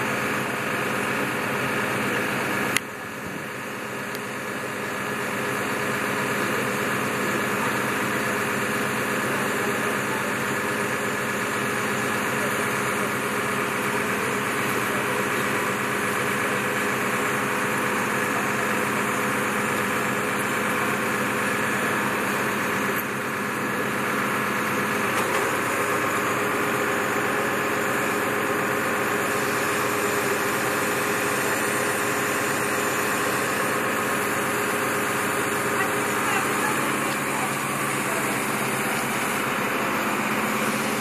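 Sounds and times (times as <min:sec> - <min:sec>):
truck engine idling: 0:00.0 - 0:41.0.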